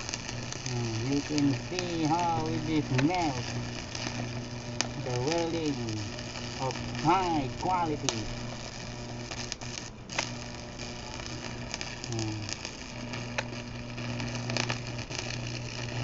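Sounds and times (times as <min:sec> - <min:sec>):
steady hum: 0:00.0 - 0:16.0
welding arc crackling: 0:00.0 - 0:16.0.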